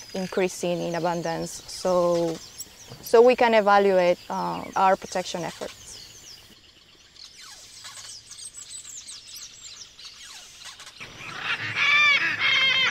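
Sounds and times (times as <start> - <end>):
birds chirping and whistling: 0.0 - 12.9
loud repeated bird calls: 0.0 - 12.9.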